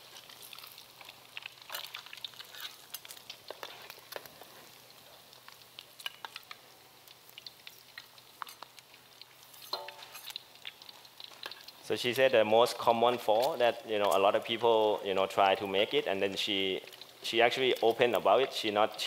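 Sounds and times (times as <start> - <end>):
egg frying in oil: 0.0 - 19.0.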